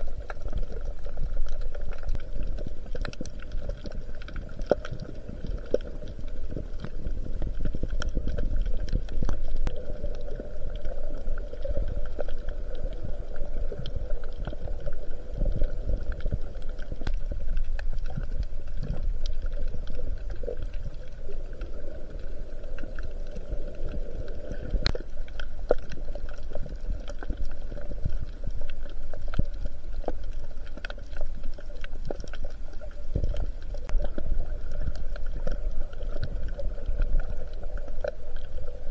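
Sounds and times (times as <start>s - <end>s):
muffled underwater rumble: 0.0s - 38.9s
sharp underwater clicks: 0.0s - 38.9s.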